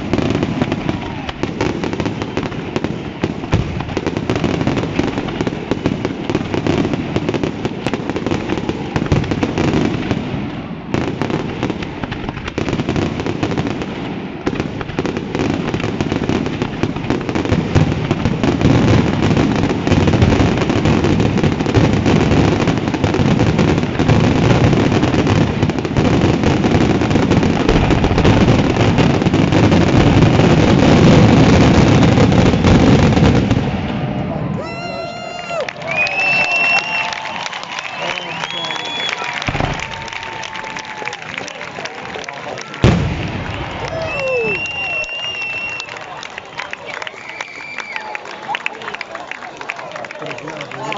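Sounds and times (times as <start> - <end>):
fireworks barrage of bangs: 0.0 - 34.9, 35.9 - 41.9, 42.6 - 46.6.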